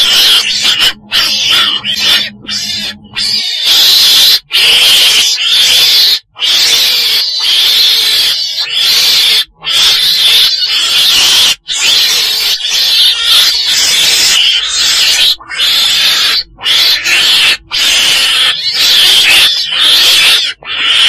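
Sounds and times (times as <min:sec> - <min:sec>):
weasel hissing screech calls: 0:00.0 - 0:21.0.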